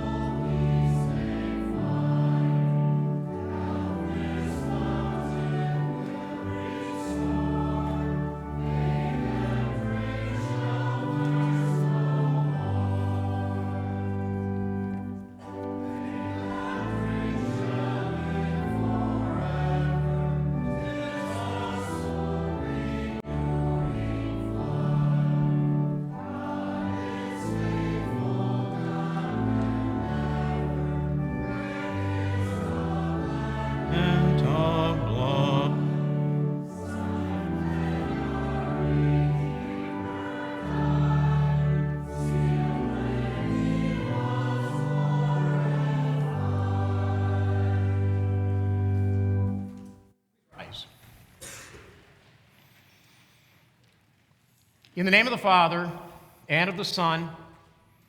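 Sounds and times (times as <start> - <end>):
held chords: 0.0 - 49.9
voices singing church music: 0.0 - 53.7, 55.0 - 58.0.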